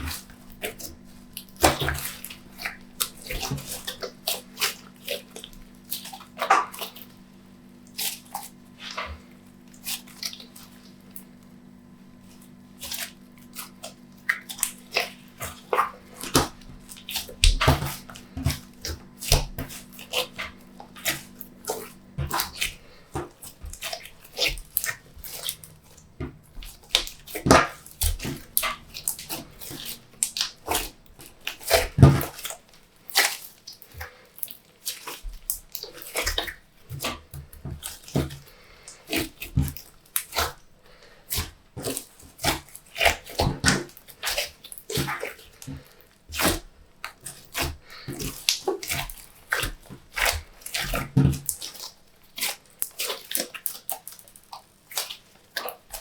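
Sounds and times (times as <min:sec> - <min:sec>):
slime squishing with wet clicks: 0:00.0 - 0:11.6, 0:12.2 - 0:40.7, 0:41.3 - 0:56.0.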